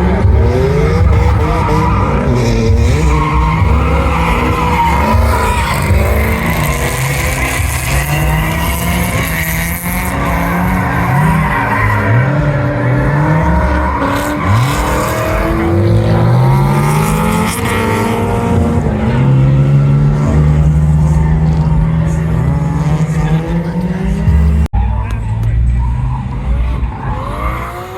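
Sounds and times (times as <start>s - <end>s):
car engine revving hard: 0.0s - 27.9s.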